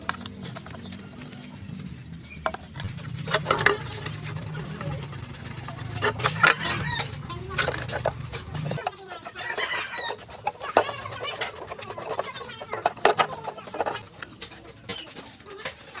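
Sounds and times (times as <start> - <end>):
steady low hum: 0.0 - 15.0
chicken clucking: 0.0 - 16.0.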